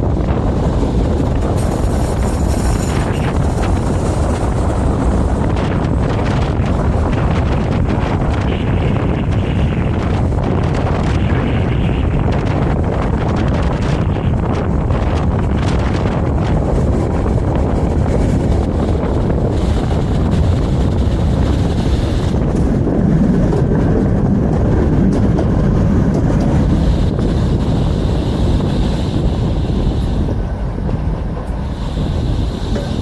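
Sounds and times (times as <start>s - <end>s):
tram rumbling on rails: 0.0s - 33.0s
wind buffeting microphone: 0.0s - 33.0s.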